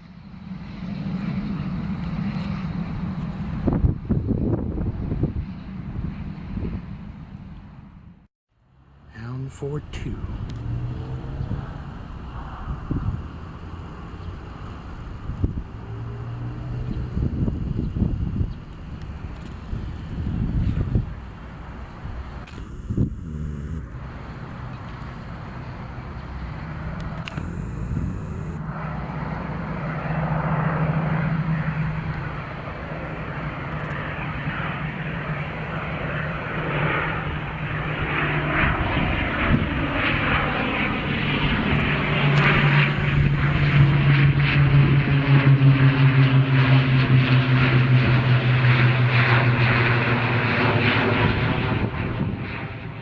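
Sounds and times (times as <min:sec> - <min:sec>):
aircraft engines droning: 0:00.0 - 0:53.0.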